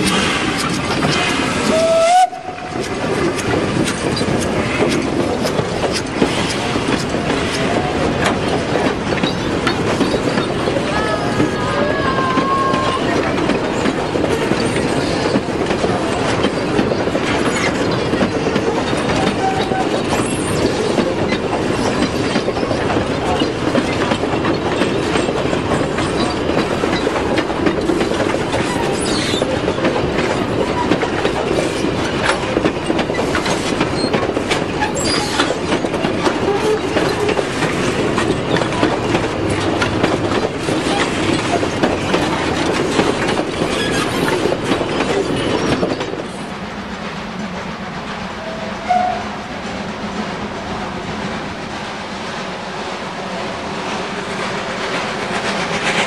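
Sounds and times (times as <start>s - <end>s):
train wheels clattering over rail joints: 0.0s - 56.0s.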